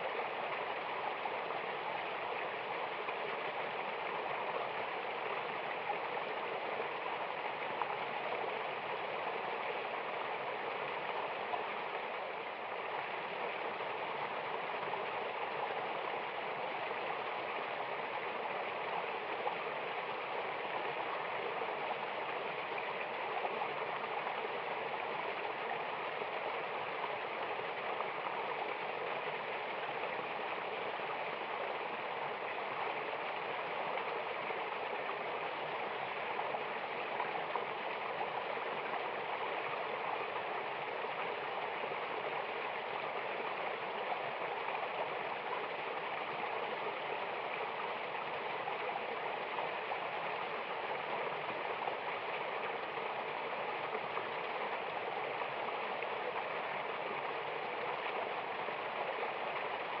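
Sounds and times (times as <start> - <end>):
flowing water rushing: 0.0 - 60.0.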